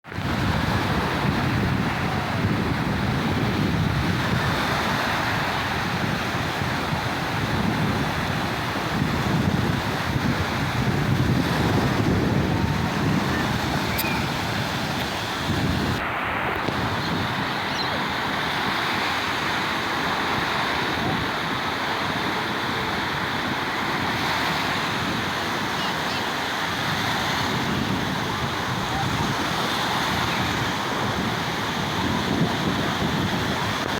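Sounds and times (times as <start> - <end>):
wind rumbling on microphone: 0.0 - 33.9
sea waves washing on shore: 0.1 - 33.9.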